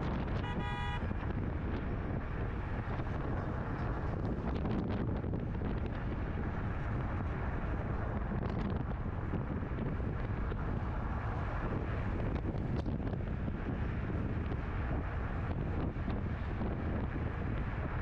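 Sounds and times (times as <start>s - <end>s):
car engine and road noise: 0.0s - 18.0s
wind buffeting microphone: 0.0s - 18.0s.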